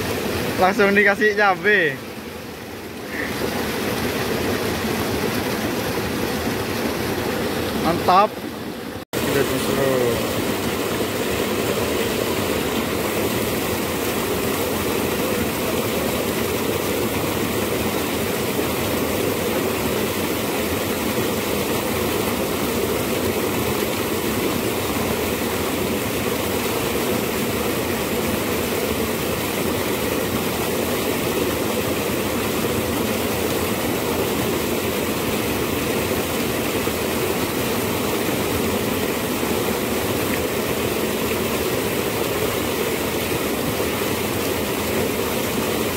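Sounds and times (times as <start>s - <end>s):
water rushing over rapids: 0.0s - 45.9s.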